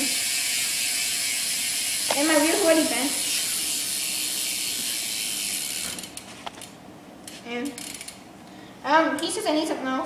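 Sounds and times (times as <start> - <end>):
bicycle hub ratcheting clicks: 0.0 - 8.3.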